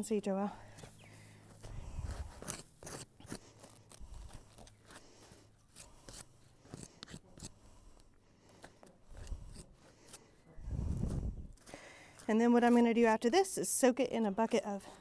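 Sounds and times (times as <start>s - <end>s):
hoof pick scraping dirt: 0.6s - 15.0s.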